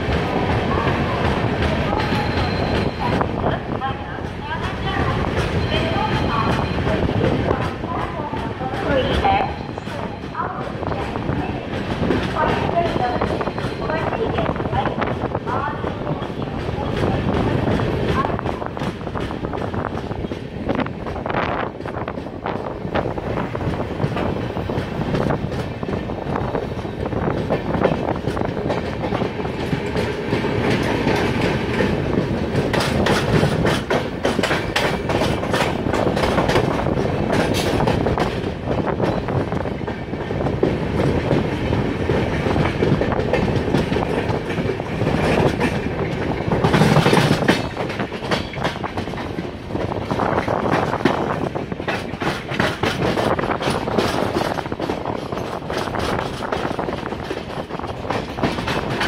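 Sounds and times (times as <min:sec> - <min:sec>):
train running noise rush: 0:00.0 - 0:59.0
train wheels clattering over joints: 0:00.0 - 0:59.0.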